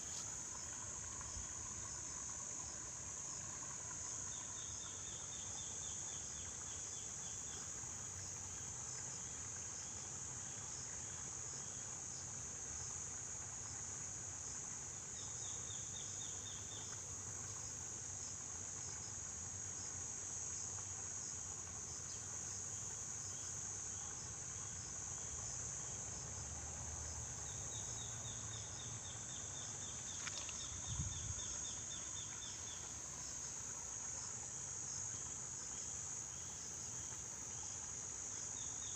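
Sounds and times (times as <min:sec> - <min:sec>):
insects droning: 0:00.0 - 0:38.9
rapid insect chirping: 0:00.0 - 0:38.9.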